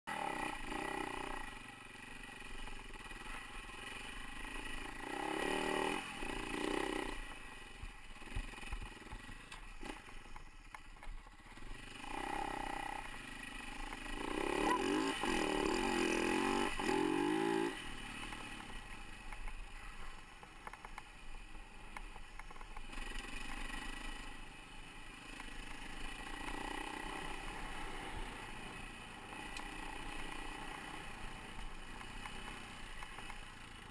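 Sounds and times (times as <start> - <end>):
dirt bike engine revving: 0.1 - 10.4, 11.4 - 20.2, 22.8 - 33.9.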